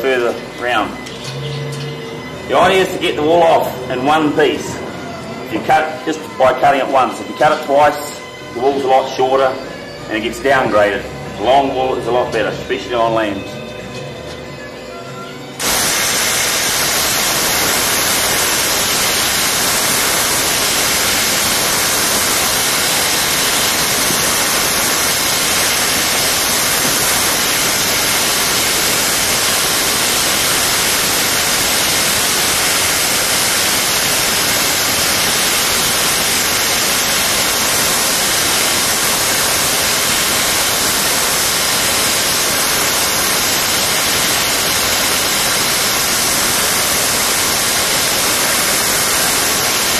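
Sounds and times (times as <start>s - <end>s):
loud static hiss: 0.0s - 49.9s.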